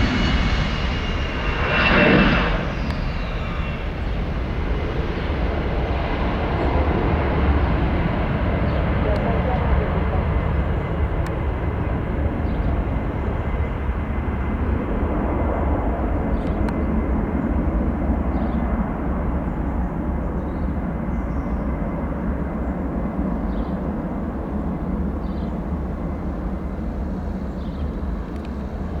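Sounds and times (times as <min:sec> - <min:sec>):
jet engines rumbling: 0:00.0 - 0:29.0.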